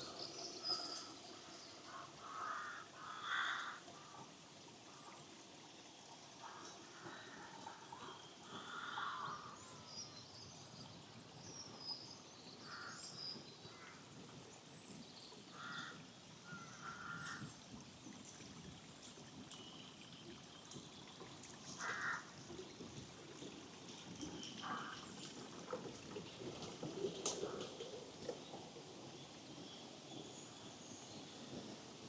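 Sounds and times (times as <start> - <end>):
stream running: 0.0 - 32.0.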